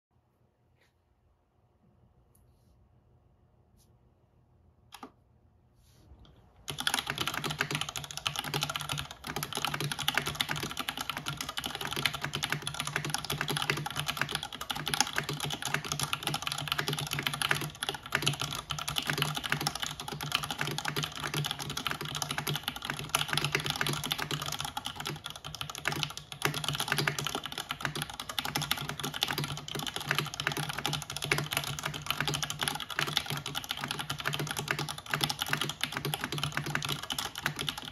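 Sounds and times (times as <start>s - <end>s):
fast mechanical keyboard typing: 6.6s - 37.9s.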